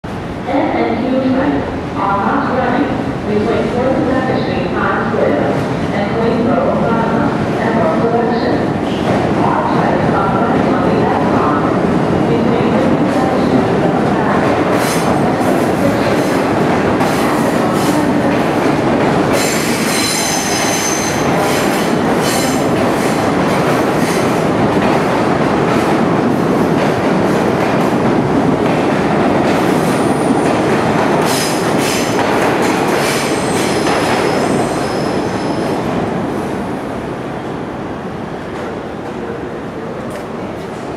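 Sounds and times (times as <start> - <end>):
subway train rumbling: 0.0 - 40.9.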